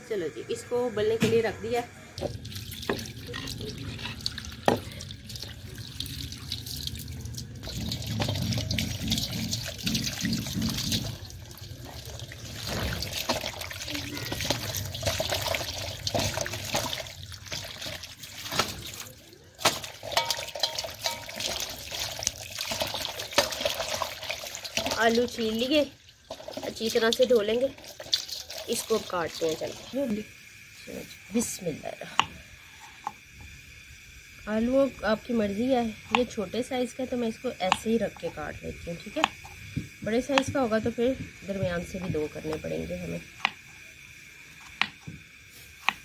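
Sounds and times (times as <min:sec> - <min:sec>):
hose water splashing into colander: 0:02.1 - 0:46.0
potatoes rubbed and rinsed: 0:02.3 - 0:33.0, 0:34.4 - 0:43.7.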